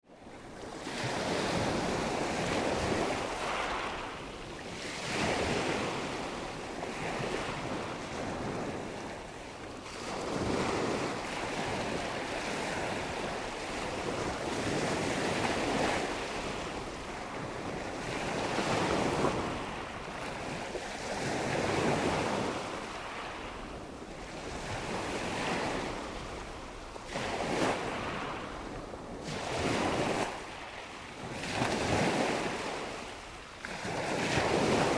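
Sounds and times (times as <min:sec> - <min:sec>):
ocean waves breaking on shore: 0:00.2 - 0:34.9.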